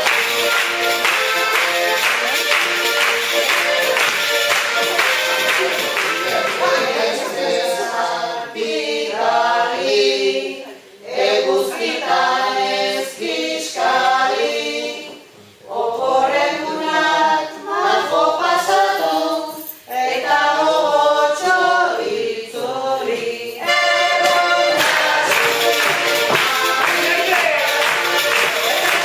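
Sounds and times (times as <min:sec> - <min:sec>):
group of voices singing: 0:00.0 - 0:29.0.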